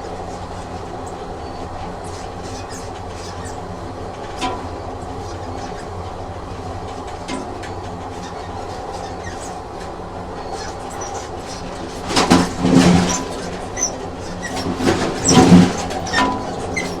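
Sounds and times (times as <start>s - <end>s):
train rumbling on rails: 0.0s - 17.0s
wheel clatter over rail joints: 0.0s - 17.0s.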